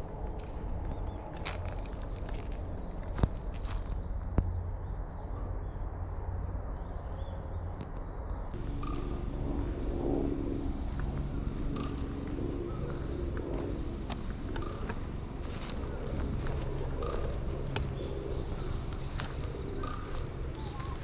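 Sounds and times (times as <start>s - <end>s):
insects trilling and chirping: 0.1s - 21.0s.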